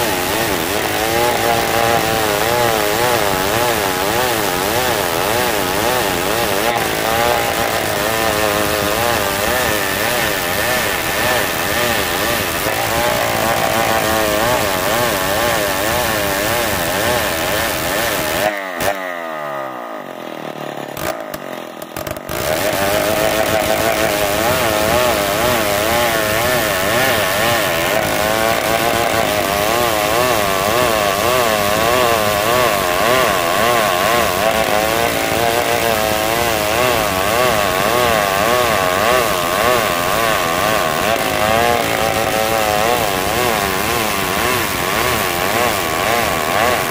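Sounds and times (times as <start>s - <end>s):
chainsaw cutting log: 0.0s - 46.9s.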